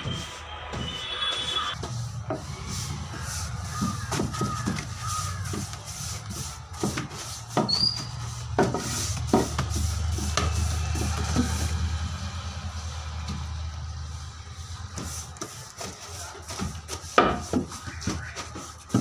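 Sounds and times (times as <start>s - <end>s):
brush knocks and scrapes: 0.0s - 19.0s
paintbrush scrubbing on wood: 1.8s - 19.0s.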